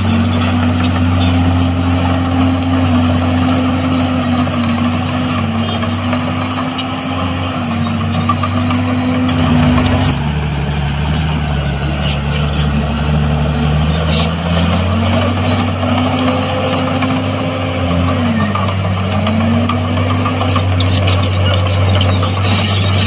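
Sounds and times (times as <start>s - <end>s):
heavy machinery diesel engine: 0.0s - 23.0s.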